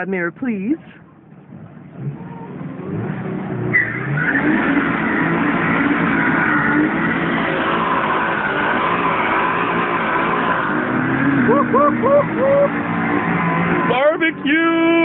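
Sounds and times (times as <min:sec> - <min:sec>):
car engine revving hard: 0:02.0 - 0:15.0.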